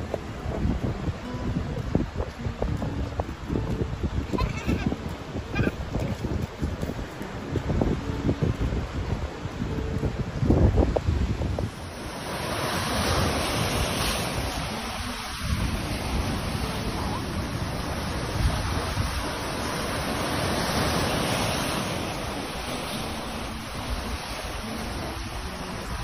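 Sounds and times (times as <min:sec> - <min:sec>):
surf breaking on rocky shore: 0:00.0 - 0:26.0
wind buffeting microphone: 0:00.0 - 0:26.0.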